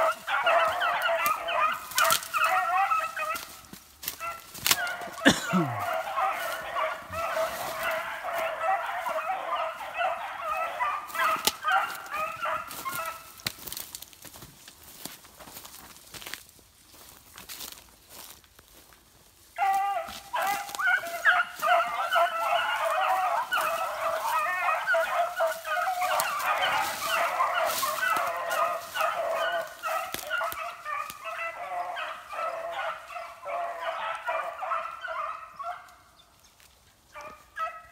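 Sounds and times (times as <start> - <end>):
dogs baying: 0.0 - 14.4, 19.5 - 36.2, 37.1 - 37.9.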